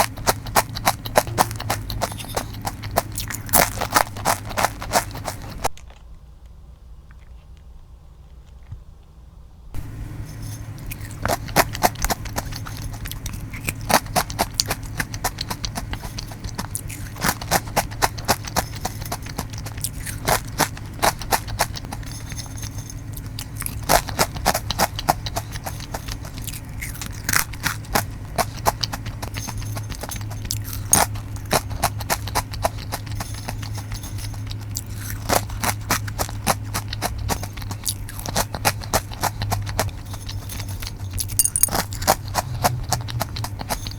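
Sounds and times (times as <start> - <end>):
crunching potato chips: 0.0 - 6.1, 9.8 - 43.9
steady low hum: 0.0 - 43.9.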